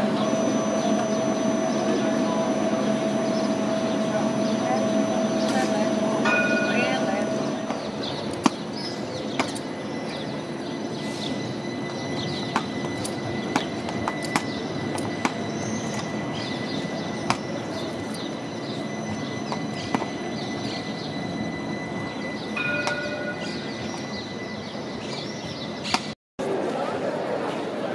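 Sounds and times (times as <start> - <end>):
thin steady high tone: 0.0 - 25.9
birds chirping: 0.0 - 26.2
tram rumbling past: 0.0 - 27.9.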